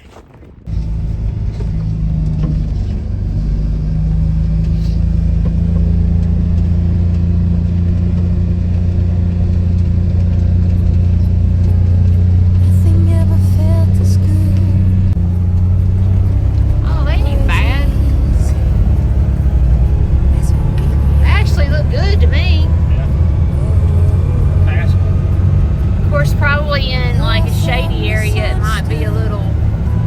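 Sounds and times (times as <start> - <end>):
road noise: 0.0 - 30.0
vehicle engine droning: 0.0 - 30.0.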